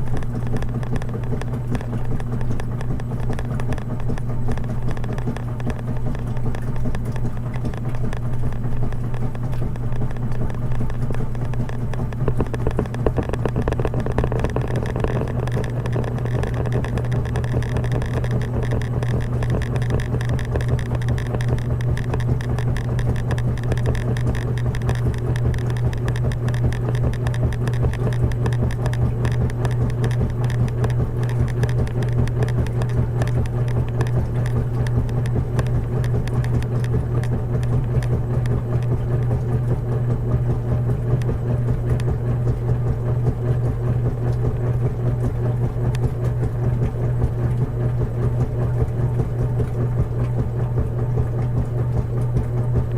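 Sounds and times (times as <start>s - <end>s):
washing machine running: 0.0s - 52.9s.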